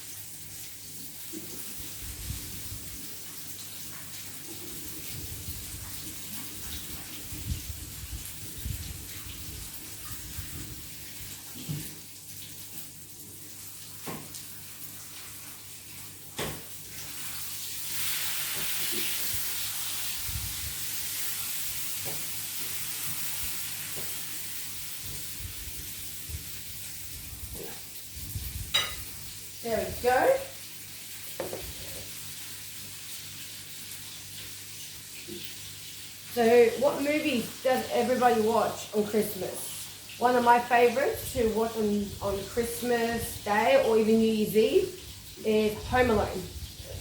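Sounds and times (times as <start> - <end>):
chicken sizzling in hot oil: 0.0 - 47.0.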